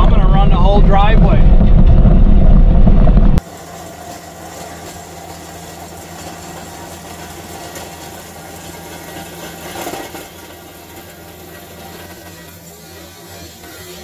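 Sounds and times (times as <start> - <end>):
diesel engine running: 0.0 - 14.0
engine and wind noise in cab: 0.0 - 14.0.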